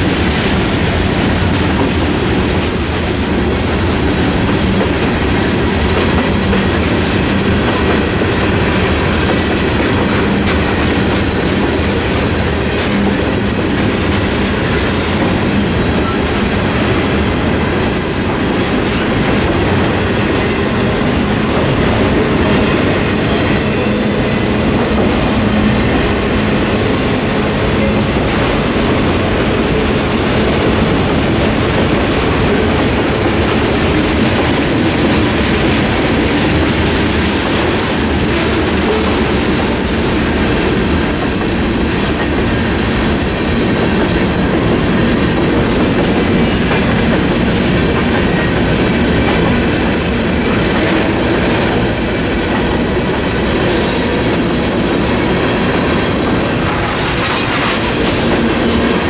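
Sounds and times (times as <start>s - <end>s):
freight train wheels clickety-clack: 0.0s - 59.0s.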